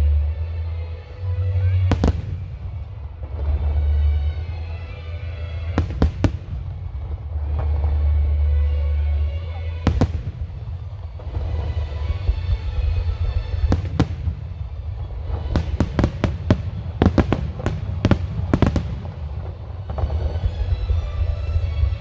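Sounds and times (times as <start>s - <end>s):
music playing: 0.0s - 22.0s
fireworks bursting: 1.7s - 7.9s, 9.7s - 21.6s.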